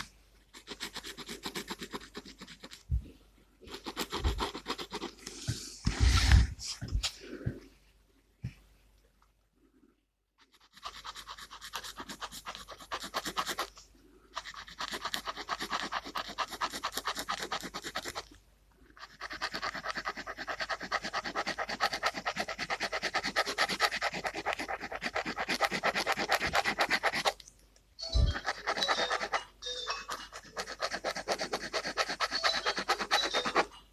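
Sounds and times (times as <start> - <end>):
pen scratching on paper: 0.0 - 2.8, 3.6 - 6.5, 10.4 - 18.3, 18.9 - 27.4, 28.1 - 33.8.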